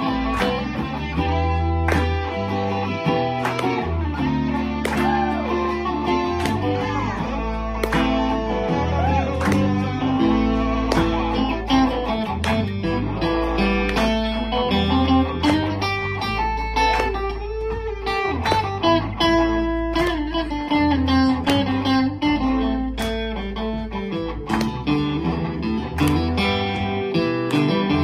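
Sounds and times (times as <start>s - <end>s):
acoustic guitar strumming: 0.0s - 28.0s
electric guitar riff: 0.0s - 28.0s.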